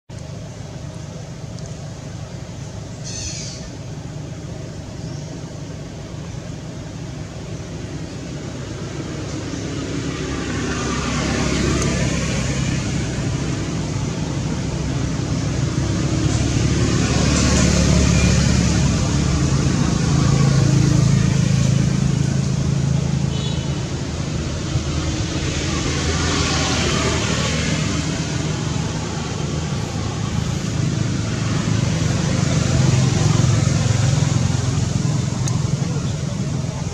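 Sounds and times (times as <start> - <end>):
vehicle engine running: 0.1 - 36.9.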